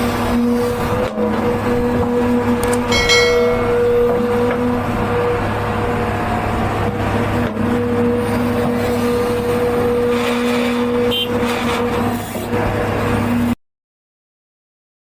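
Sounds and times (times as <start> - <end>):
heavy diesel machinery running: 0.0 - 13.5.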